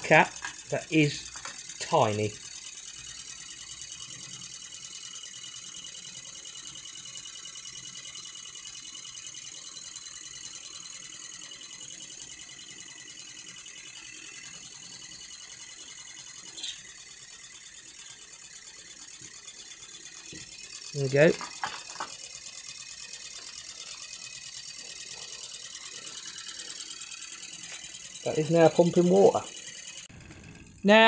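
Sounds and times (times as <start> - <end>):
hot air engine clattering: 0.0 - 31.0.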